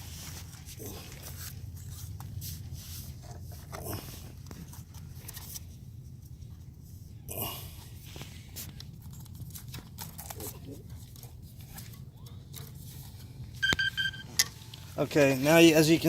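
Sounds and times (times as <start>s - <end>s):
handling rustles and clicks: 0.0s - 6.8s, 8.0s - 16.0s
low steady hum: 0.0s - 16.0s.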